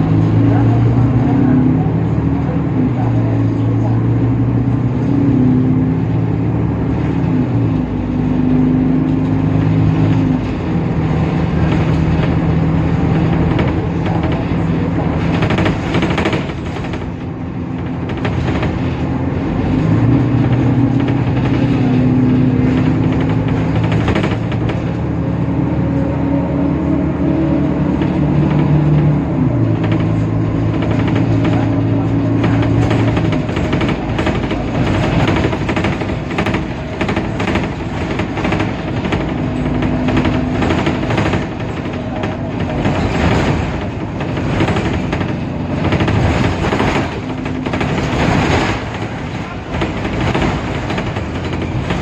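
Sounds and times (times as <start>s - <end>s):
bus body rattling and knocking: 0.0s - 52.0s
bus engine running: 0.0s - 52.0s.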